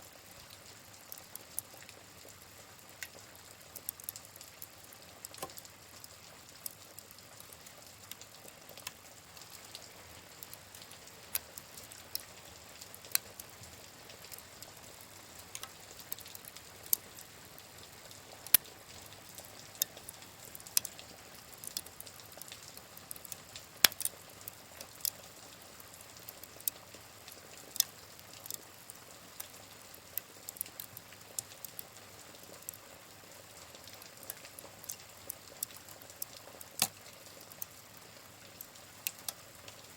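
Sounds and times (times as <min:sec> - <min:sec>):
hiss of rain: 0:00.0 - 0:39.9
wood fire crackling: 0:00.0 - 0:39.9.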